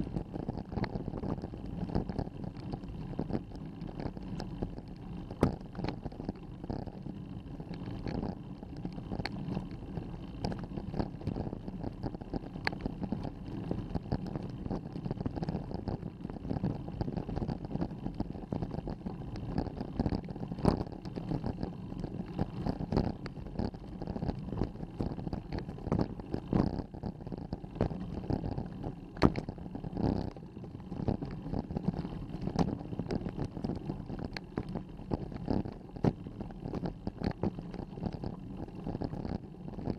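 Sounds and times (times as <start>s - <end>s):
bicycle tyres rumbling on gravel: 0.0s - 39.9s.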